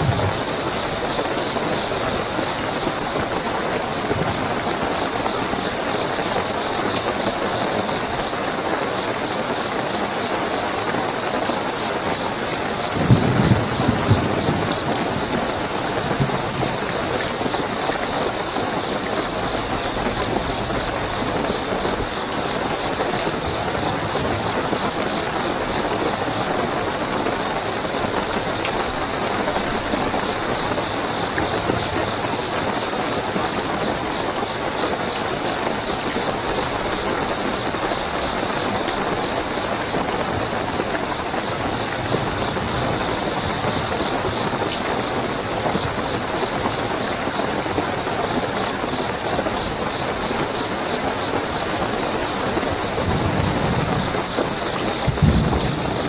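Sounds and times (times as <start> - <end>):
crickets trilling: 0.0 - 56.0
heavy rainfall: 0.0 - 56.0.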